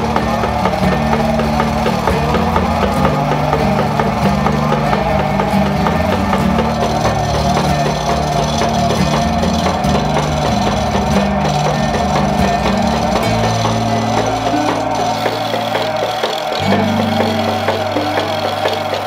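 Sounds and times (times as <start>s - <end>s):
background music with bass line: 0.0s - 19.0s.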